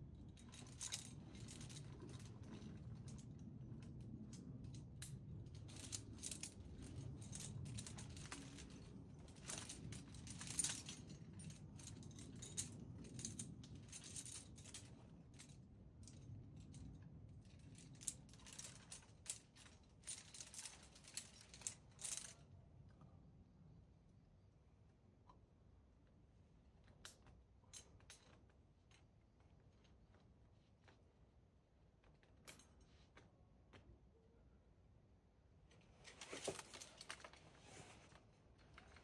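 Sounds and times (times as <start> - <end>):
climbing gear clinking: 0.1 - 22.4, 26.8 - 31.0, 32.0 - 33.8, 35.8 - 39.0.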